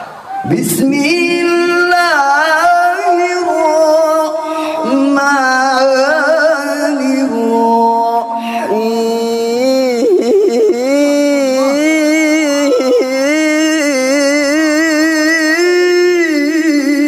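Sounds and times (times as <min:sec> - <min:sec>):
man reciting melodically into microphone: 0:00.4 - 0:17.0.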